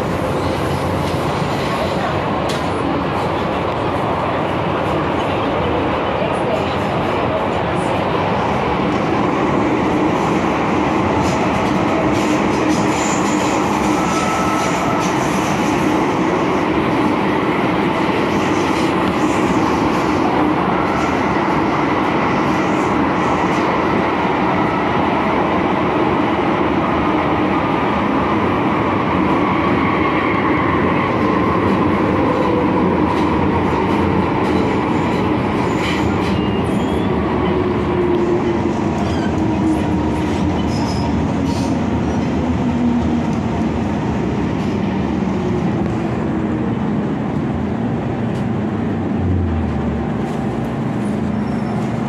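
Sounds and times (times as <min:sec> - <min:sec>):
wheel and rail rumble: 0:00.0 - 0:52.0.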